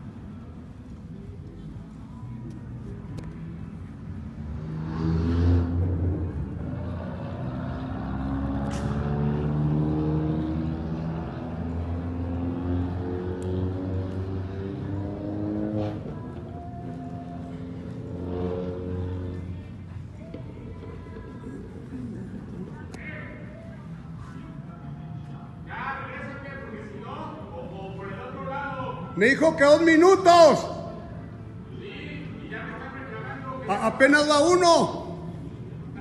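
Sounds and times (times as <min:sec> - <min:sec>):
tyre and road noise: 0:00.0 - 0:36.0.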